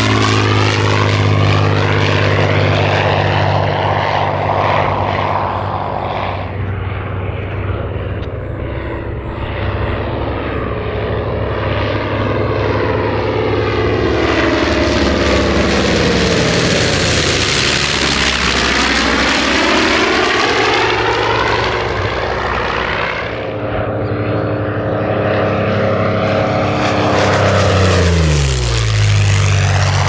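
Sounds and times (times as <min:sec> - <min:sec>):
propeller aircraft engine drone: 0:00.0 - 0:30.0.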